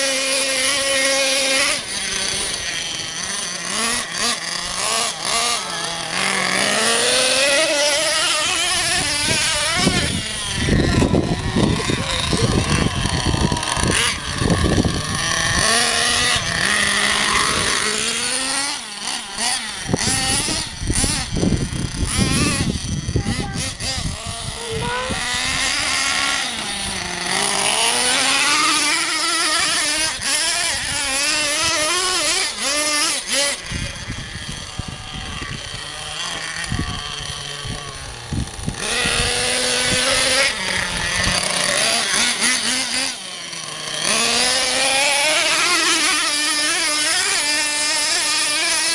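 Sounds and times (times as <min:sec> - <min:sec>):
small nitro engine revving: 0:00.0 - 0:48.9.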